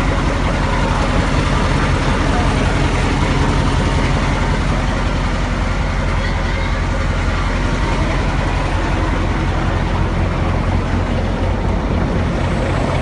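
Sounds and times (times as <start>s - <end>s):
diesel truck idling: 0.0s - 13.0s.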